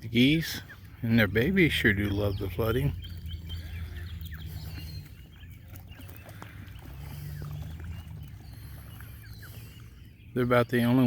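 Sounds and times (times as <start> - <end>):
geese and goslings calling: 0.0 - 11.0.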